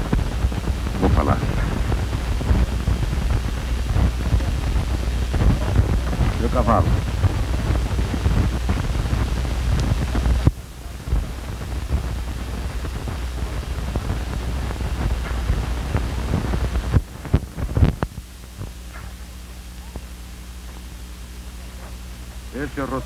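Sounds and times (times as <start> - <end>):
low rumble: 0.0 - 22.8
film hiss and crackle: 0.0 - 23.0
steady mains hum: 0.0 - 23.0.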